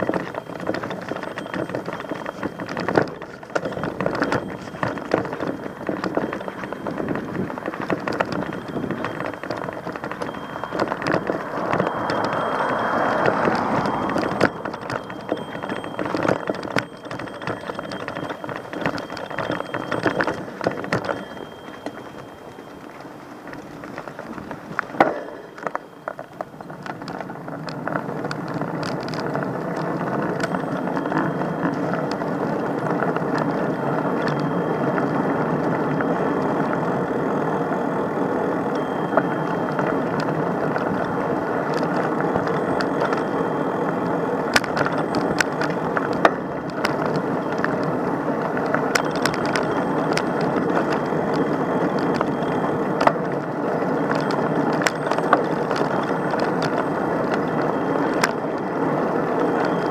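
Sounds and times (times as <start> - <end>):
rolling rumble: 0.0 - 59.9
wheels clattering and ticking: 0.0 - 59.9.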